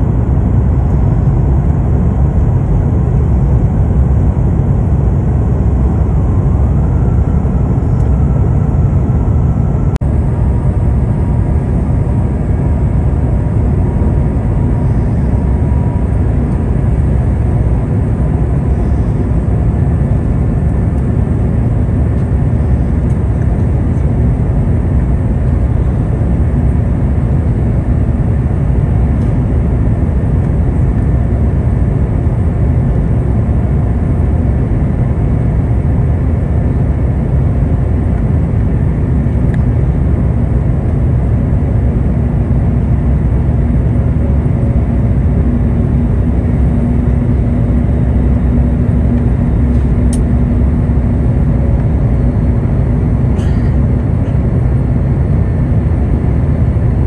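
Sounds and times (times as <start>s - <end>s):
airplane cabin airflow rumble: 0.0s - 57.0s
jet engines: 0.0s - 57.0s
low hum: 0.0s - 57.0s.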